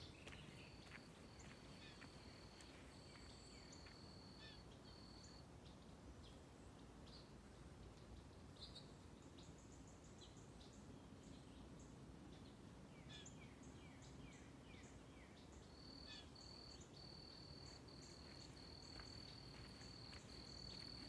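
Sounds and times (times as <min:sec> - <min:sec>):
faint birdsong: 0:00.0 - 0:21.0.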